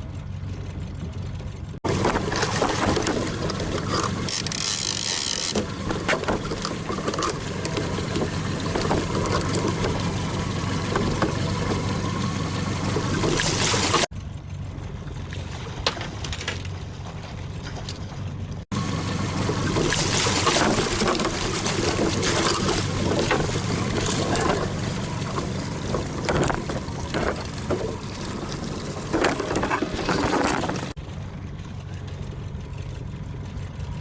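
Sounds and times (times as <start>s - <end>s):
outboard motor running: 0.0s - 34.0s
rushing wind and water: 1.7s - 14.1s, 15.0s - 34.0s.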